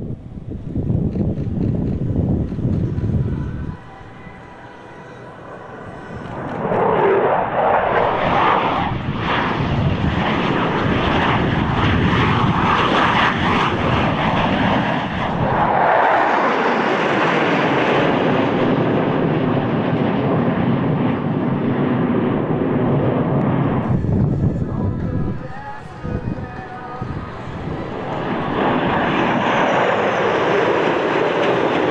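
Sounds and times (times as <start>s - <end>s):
aircraft engines roaring past: 0.0s - 31.9s.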